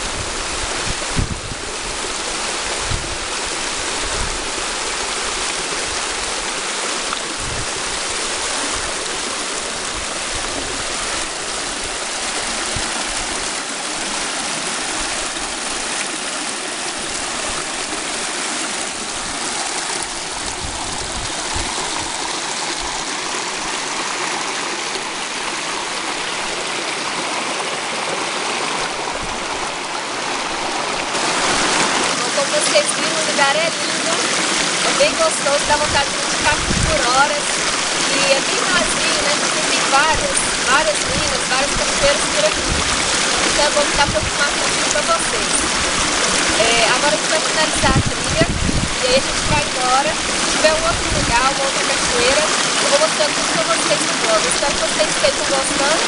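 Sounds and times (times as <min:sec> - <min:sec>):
waterfall rushing into pool: 0:00.0 - 0:56.0.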